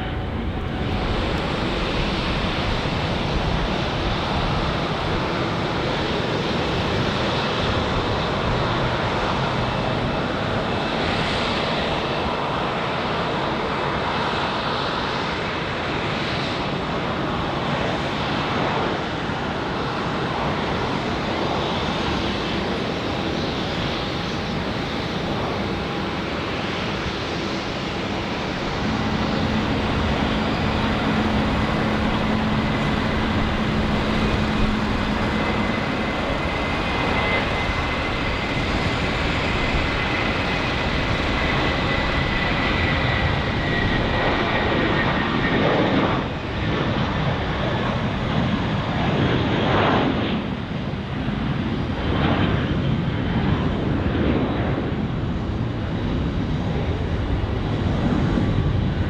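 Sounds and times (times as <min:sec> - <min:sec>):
high jet engine whine: 0:00.0 - 0:59.0
jet engines running: 0:00.0 - 0:59.0.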